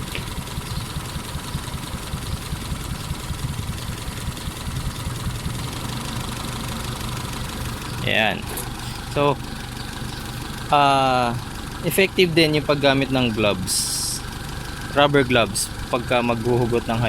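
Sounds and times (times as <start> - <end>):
engine idling unevenly: 0.0 - 17.0.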